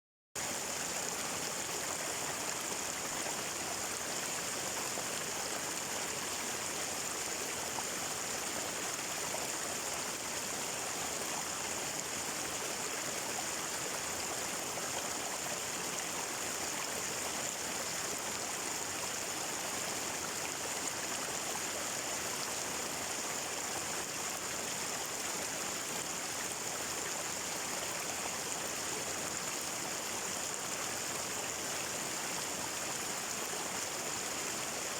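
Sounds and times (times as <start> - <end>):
stream flowing: 0.4 - 34.9.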